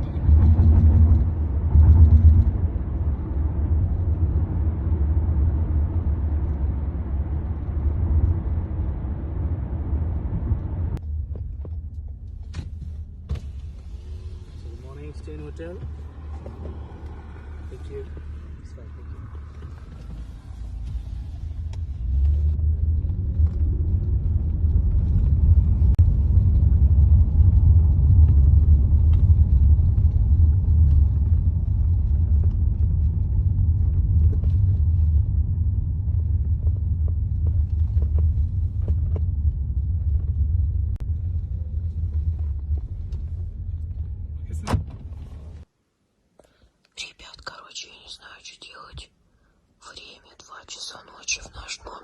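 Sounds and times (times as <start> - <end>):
car interior rumble: 0.0 - 45.7.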